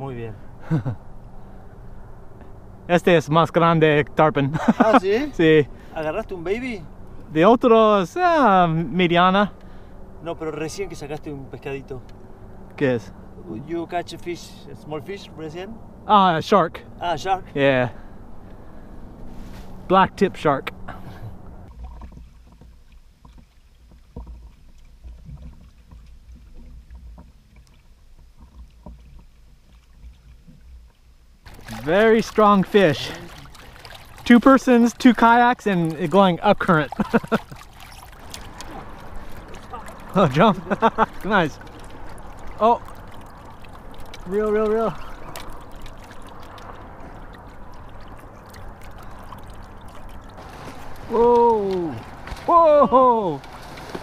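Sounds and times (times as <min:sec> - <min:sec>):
faint low rumble: 0:00.0 - 0:54.0
water lapping against hull: 0:00.4 - 0:54.0.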